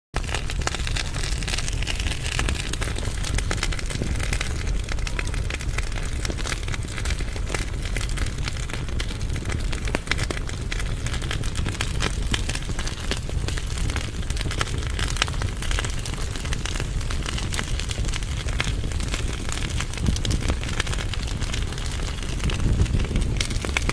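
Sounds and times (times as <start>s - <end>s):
fire crackling in a fireplace: 0.2s - 23.9s.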